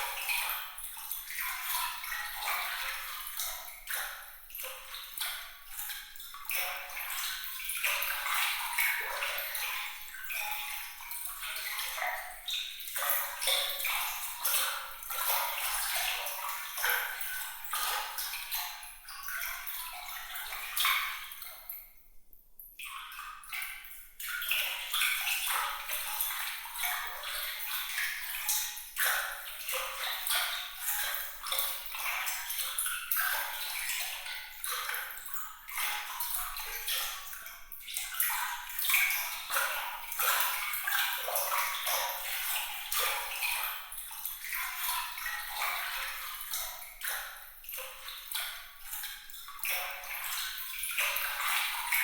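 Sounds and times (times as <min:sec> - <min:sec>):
water splashes and drips: 0:00.0 - 0:52.0.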